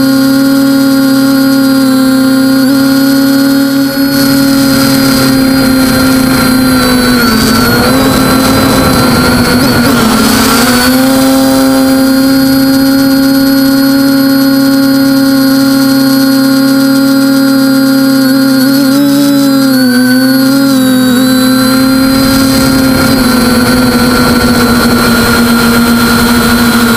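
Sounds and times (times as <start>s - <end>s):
quadcopter motors whining: 0.0s - 26.9s.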